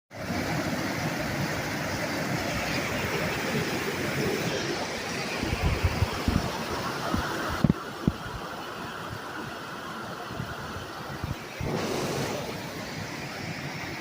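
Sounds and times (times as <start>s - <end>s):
waterfall rushing: 0.2s - 14.0s.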